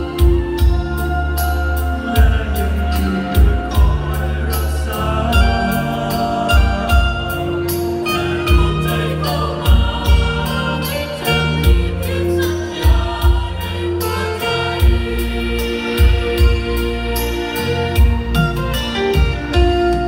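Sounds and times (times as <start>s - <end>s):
choir singing in harmony: 0.0s - 20.0s
deep bass notes: 0.0s - 20.0s.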